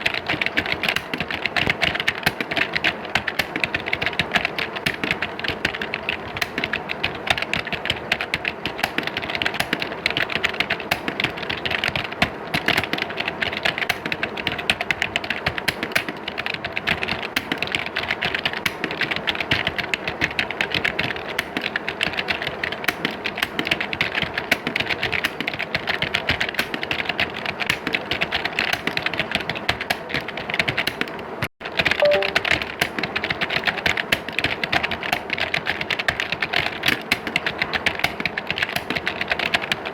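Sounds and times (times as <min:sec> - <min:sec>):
many keyboards clattering: 0:00.0 - 0:31.2, 0:33.1 - 0:39.9.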